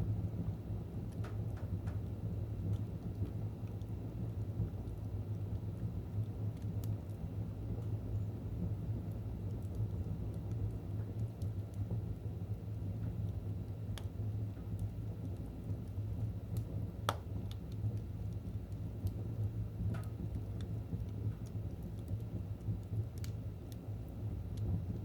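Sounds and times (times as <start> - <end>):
fire crackles and pops: 0.0 - 25.0
fire rumbling in fireplace: 0.0 - 25.0.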